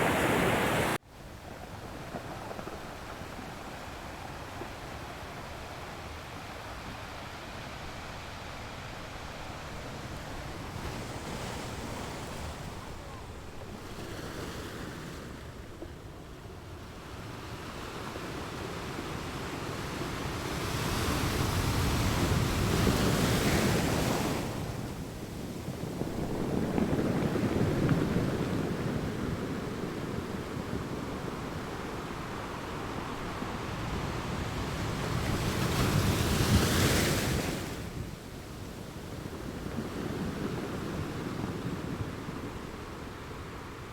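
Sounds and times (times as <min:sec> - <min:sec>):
ocean waves washing: 0:00.0 - 0:43.9.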